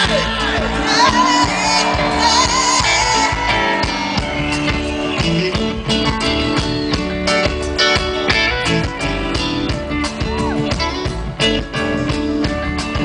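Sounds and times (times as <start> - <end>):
electric guitar: 0.0 - 13.0
reggae band playing: 0.0 - 13.0.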